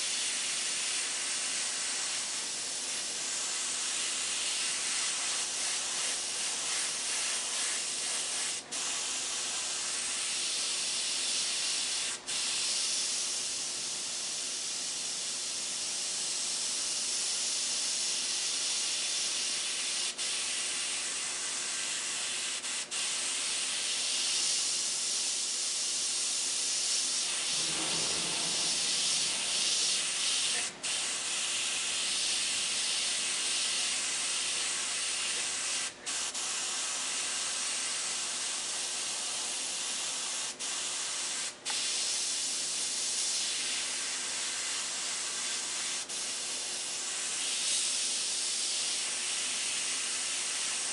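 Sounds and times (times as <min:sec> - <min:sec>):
airbrush hissing: 0:00.0 - 0:50.9.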